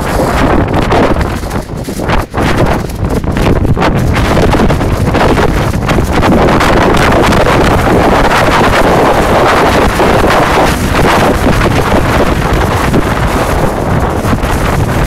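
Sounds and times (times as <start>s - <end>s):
plastic poncho flapping: 0.0s - 15.0s
wind buffeting microphone: 0.0s - 15.0s.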